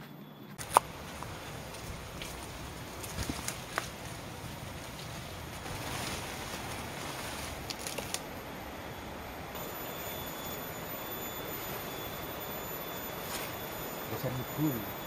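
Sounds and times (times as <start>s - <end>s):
thin high whine: 0.0s - 15.0s
rushing background noise: 0.6s - 15.0s.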